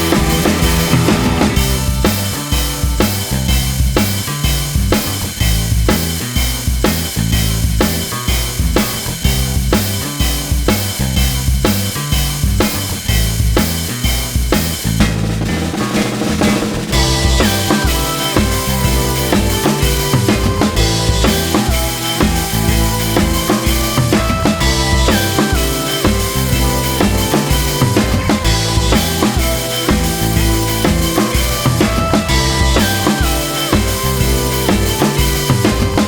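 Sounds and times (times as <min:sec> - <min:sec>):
background music with drum beat: 0:00.0 - 0:36.0
bass line: 0:00.0 - 0:36.0.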